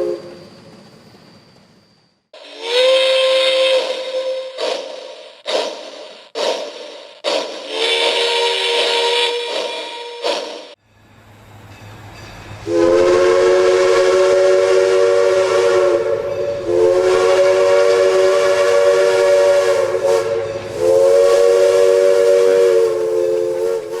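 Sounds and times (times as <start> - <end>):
train chime whistle blasts: 0.0 - 0.5, 2.4 - 10.8, 12.6 - 24.0
steam hiss: 0.0 - 24.0.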